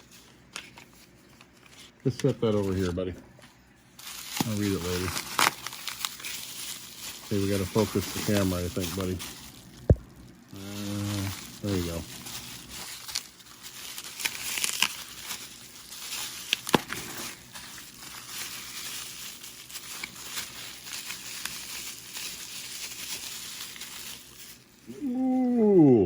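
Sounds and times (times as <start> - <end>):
plastic packaging crinkling: 0.0 - 24.9.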